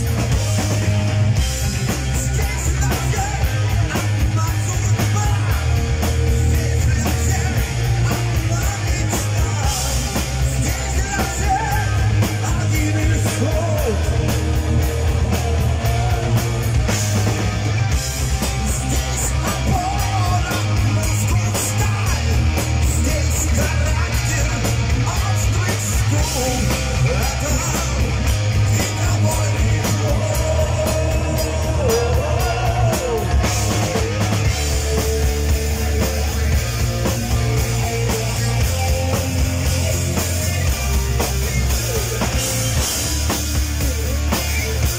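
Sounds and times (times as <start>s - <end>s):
heavy metal band playing: 0.0s - 44.9s
man singing and shouting: 0.0s - 44.9s.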